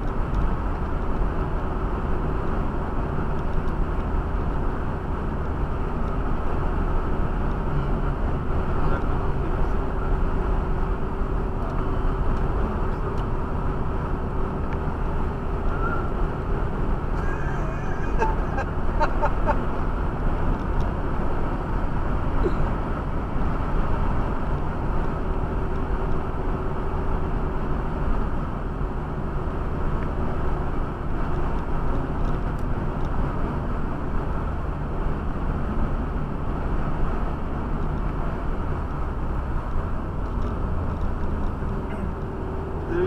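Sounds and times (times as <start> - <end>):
car interior driving drone: 0.0 - 43.0.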